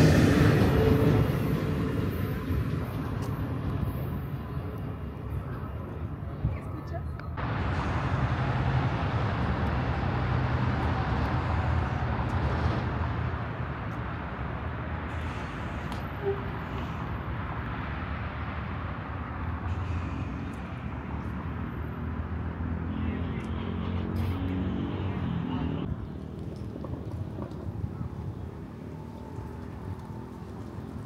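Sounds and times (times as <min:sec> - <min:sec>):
vehicle engine rumble: 0:00.0 - 0:31.0.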